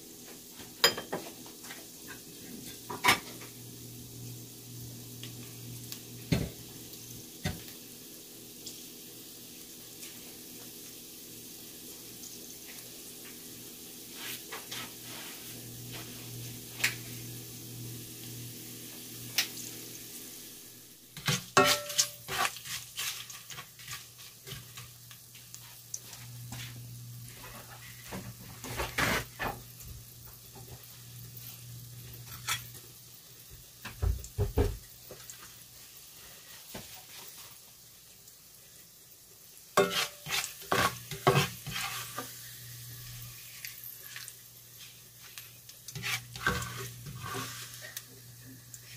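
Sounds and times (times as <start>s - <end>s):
garlic sizzling in oil: 0.0s - 48.9s.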